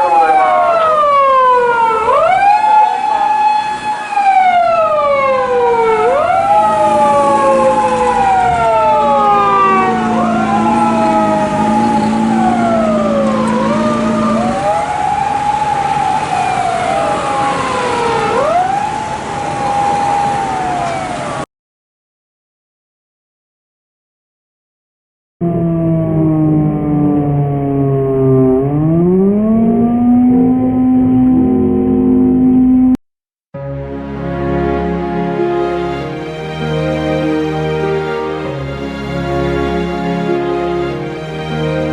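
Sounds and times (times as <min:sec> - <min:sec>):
police sirens wailing: 0:00.0 - 0:21.4, 0:25.4 - 0:32.2, 0:33.8 - 0:41.9.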